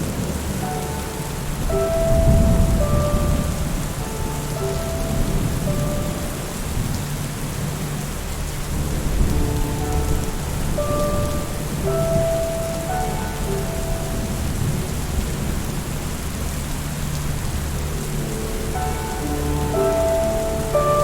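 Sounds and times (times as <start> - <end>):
rolling thunder: 0.0 - 21.0
soft held musical notes: 0.0 - 21.0
steady rain: 0.0 - 21.0.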